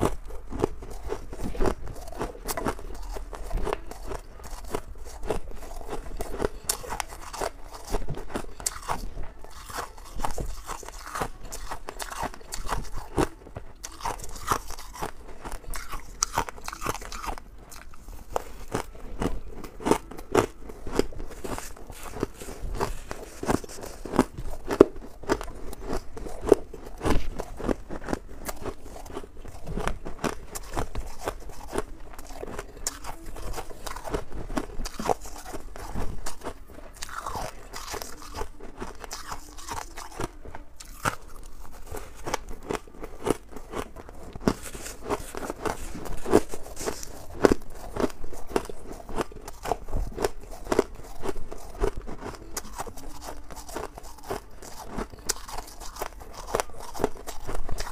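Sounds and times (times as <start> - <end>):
crunching ice frost: 0.6 - 57.9.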